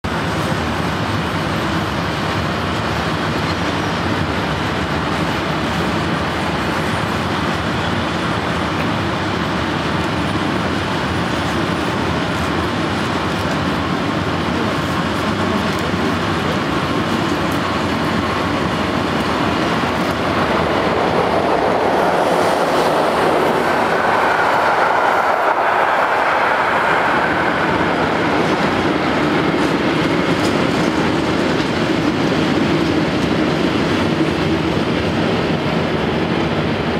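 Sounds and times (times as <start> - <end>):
freight train rumbling: 0.0 - 36.9
passenger train passing: 0.0 - 36.9.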